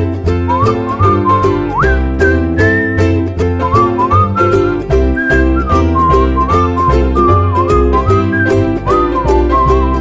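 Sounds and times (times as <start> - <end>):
bass line: 0.0 - 10.0
plucked string chords: 0.0 - 10.0
whistled tune: 0.3 - 10.0.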